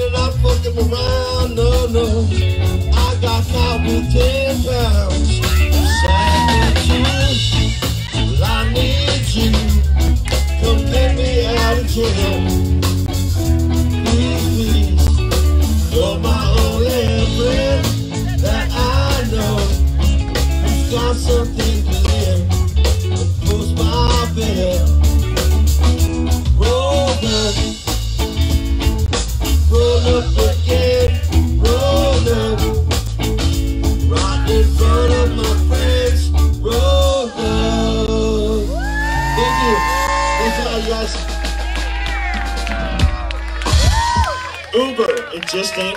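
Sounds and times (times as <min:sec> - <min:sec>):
drum kit: 0:00.0 - 0:44.6
bass line: 0:00.0 - 0:45.0
electric guitars: 0:00.0 - 0:45.9.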